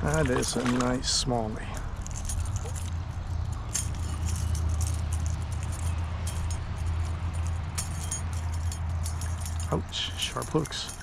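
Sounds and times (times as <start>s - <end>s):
low hum: 1.6s - 11.0s
fishing lure hooks clinking: 1.7s - 11.0s.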